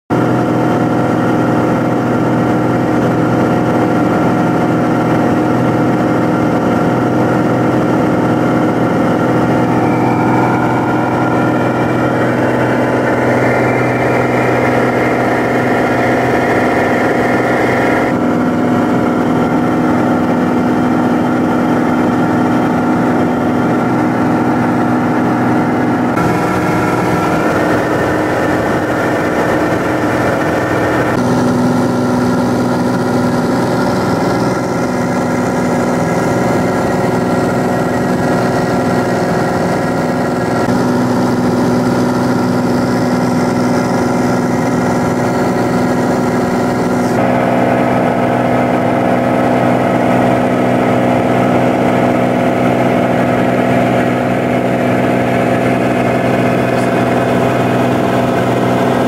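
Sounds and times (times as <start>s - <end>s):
aircraft engine and propeller drone: 0.1s - 59.0s
airflow noise: 6.9s - 59.0s.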